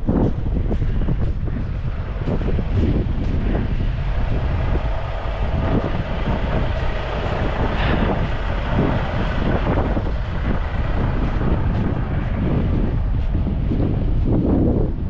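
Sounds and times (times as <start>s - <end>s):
highway traffic in snow: 0.0s - 15.0s
wind rumbling on microphone: 0.0s - 15.0s.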